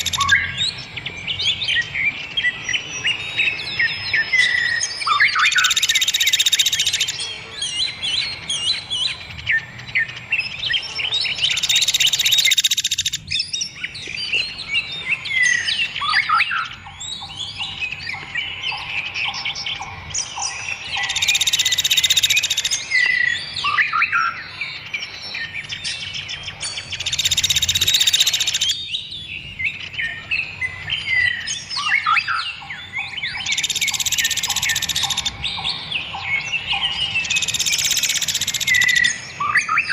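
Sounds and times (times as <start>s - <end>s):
loud buzzy bird trill: 0.0s - 39.9s
songbird chorus: 0.0s - 39.9s.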